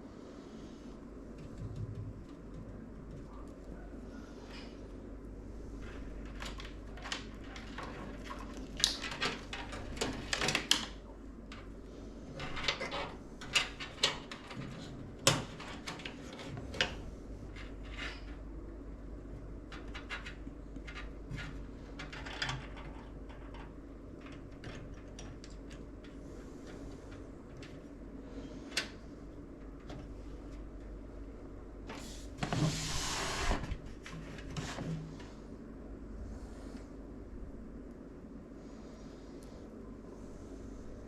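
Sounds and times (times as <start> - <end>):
faint room hum: 0.0 - 41.0.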